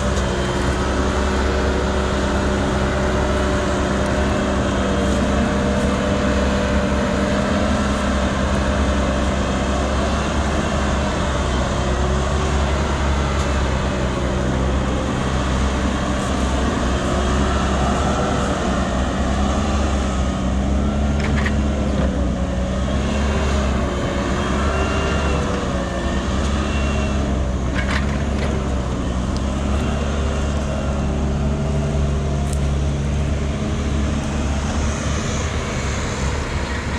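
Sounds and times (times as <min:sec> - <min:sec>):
large diesel engine under load: 0:00.0 - 0:36.9.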